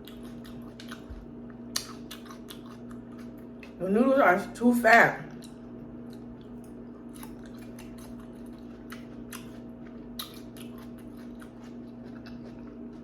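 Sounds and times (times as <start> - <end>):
person chewing food: 0.0 - 3.8, 5.3 - 13.0
low electrical hum: 0.0 - 13.0.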